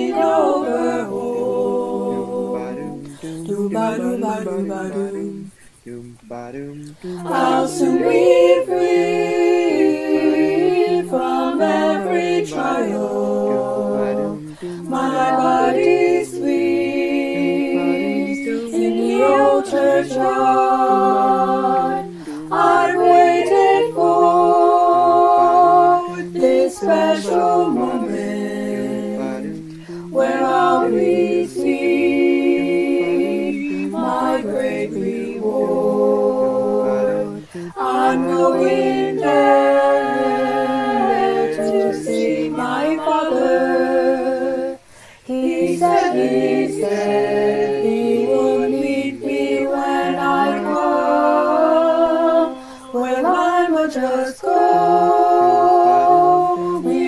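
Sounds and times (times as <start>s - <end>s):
a cappella choir singing: 0.0s - 57.0s.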